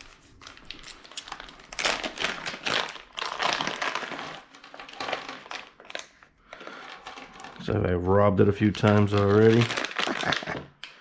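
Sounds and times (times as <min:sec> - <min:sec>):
plastic crinkling: 0:00.0 - 0:07.8, 0:08.5 - 0:10.8.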